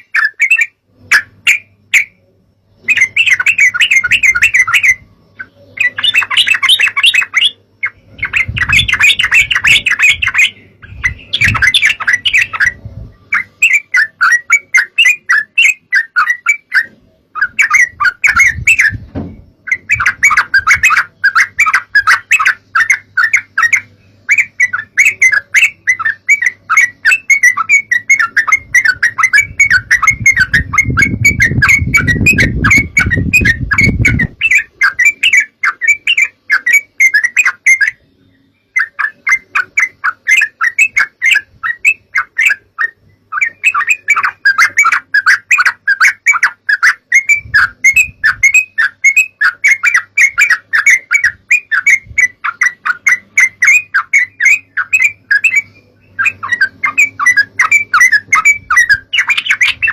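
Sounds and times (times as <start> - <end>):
bird chirping rapidly: 0.0 - 59.9.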